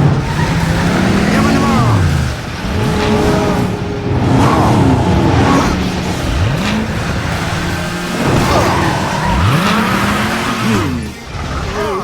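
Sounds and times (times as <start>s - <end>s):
background music: 0.0s - 12.0s
cartoon race car engine revving: 0.0s - 12.0s.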